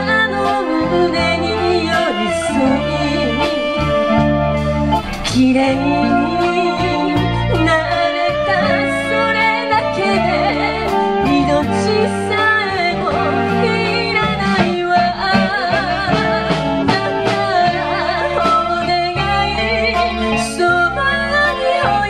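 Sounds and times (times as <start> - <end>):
woman singing ballad with vibrato: 0.0 - 4.5, 5.2 - 22.0
live band playing: 0.0 - 22.0.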